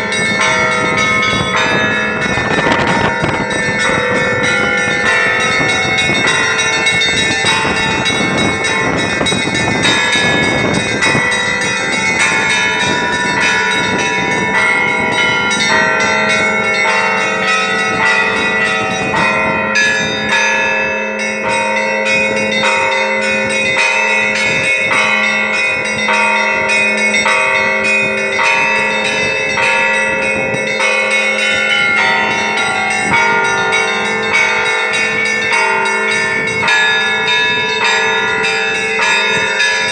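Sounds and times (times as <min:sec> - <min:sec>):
church bells pealing: 0:00.0 - 0:39.9
deep bell tolling: 0:00.0 - 0:39.9.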